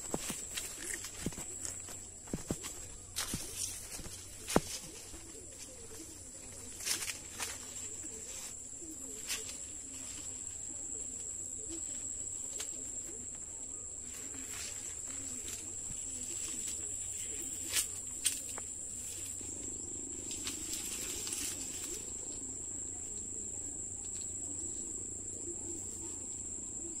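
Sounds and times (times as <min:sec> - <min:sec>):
faint chirps: 0:00.0 - 0:27.0.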